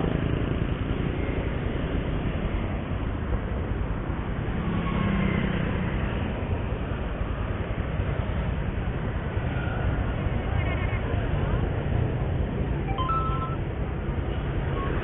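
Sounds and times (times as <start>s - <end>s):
motorcycle engine and road noise: 0.0s - 15.0s.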